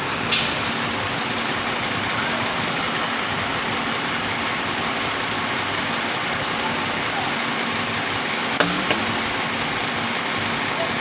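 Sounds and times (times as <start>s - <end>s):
concrete pump engine running: 0.0s - 11.0s.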